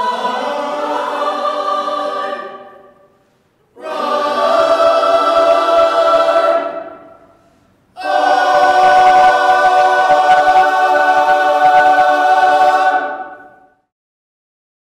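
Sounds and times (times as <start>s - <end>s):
choir singing sustained chords: 0.0s - 13.9s.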